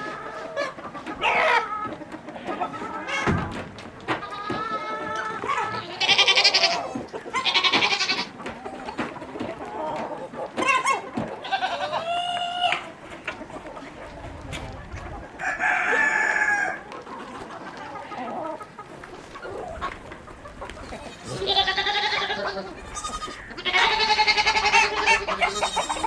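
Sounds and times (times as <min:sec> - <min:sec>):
chickens clucking and crowing: 0:00.0 - 0:26.0.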